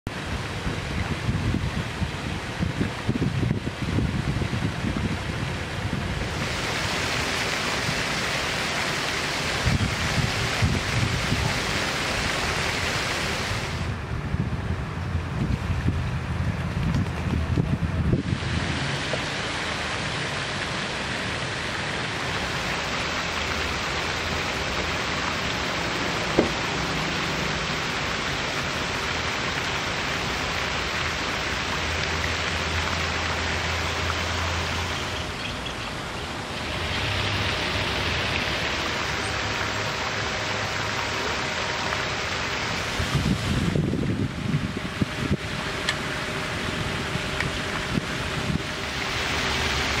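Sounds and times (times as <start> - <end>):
steady rushing outdoor noise: 0.1 - 50.0.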